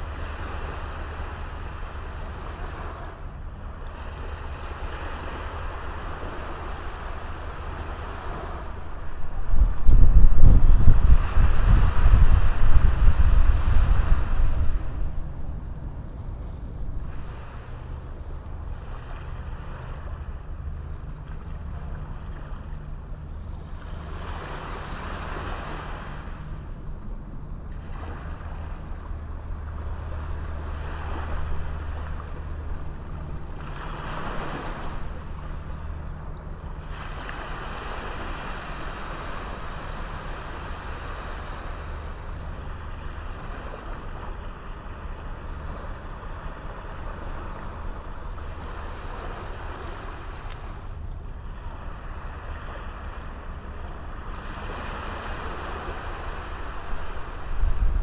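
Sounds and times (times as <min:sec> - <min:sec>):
waves breaking on beach: 0:00.0 - 0:58.0
wind rumble on microphone: 0:00.0 - 0:58.0.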